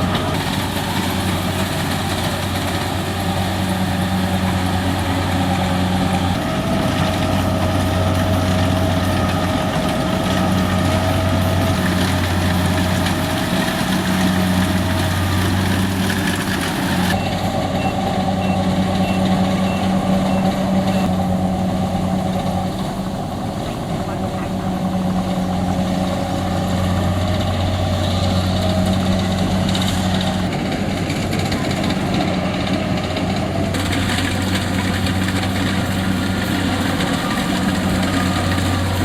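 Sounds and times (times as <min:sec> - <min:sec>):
diesel engine humming: 0:00.0 - 0:39.0.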